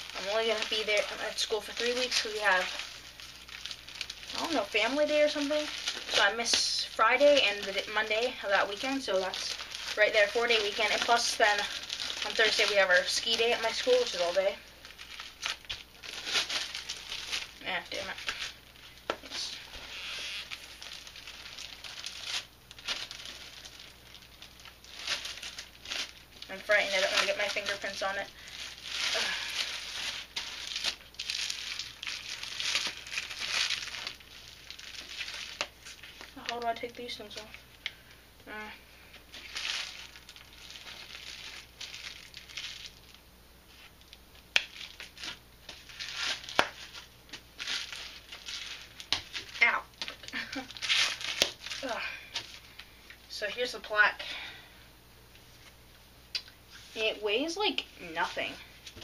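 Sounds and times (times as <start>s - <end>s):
plastic wrapping crinkling: 0.0s - 53.9s.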